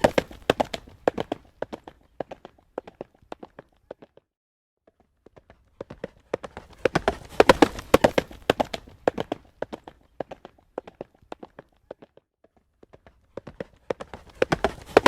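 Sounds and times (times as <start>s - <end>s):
horse hooves trotting on road: 0.0s - 4.2s, 5.1s - 15.0s.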